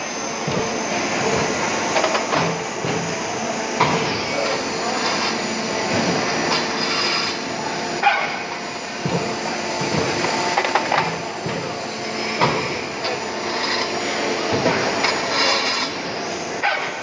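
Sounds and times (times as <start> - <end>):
machinery running: 0.0 - 17.0.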